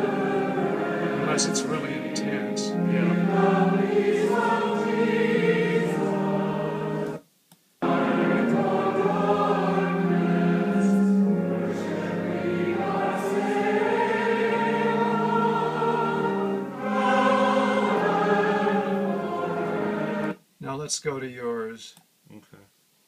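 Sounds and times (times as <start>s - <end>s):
choir singing sustained chords: 0.0s - 7.2s, 7.8s - 20.4s.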